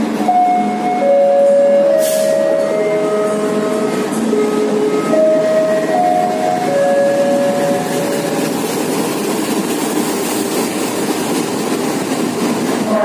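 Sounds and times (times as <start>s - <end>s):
train rumbling and rattling on rails: 0.0s - 13.0s.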